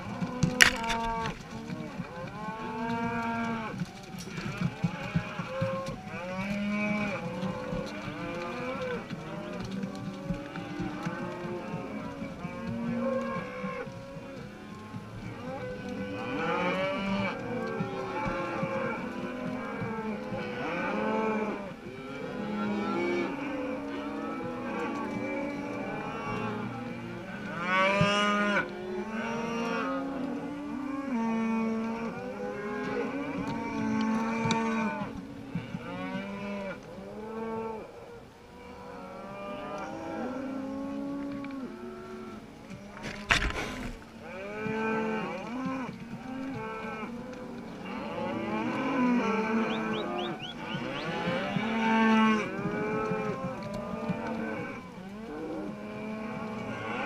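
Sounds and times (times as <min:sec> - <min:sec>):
cows mooing and bawling: 0:00.0 - 0:57.0.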